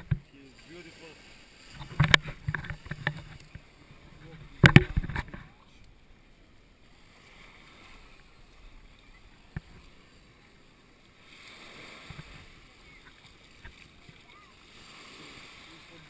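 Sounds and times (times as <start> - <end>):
small waves washing on sand: 0.0 - 16.0.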